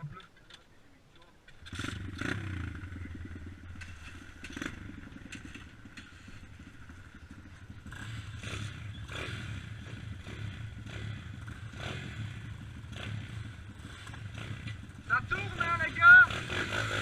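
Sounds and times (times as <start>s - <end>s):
dirt bike engine idling: 0.8s - 17.0s.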